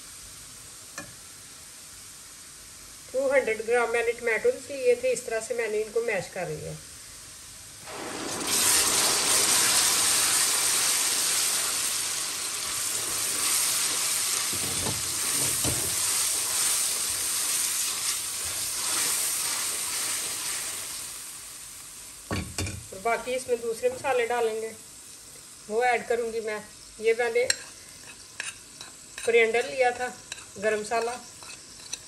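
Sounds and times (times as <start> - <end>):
tomatoes sizzling in hot oil: 0.0 - 32.0.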